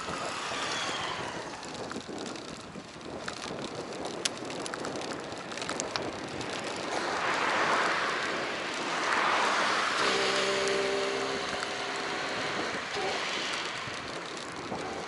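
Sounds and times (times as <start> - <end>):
small clicks and rattles: 0.0 - 15.0
wind and road noise: 0.0 - 15.0.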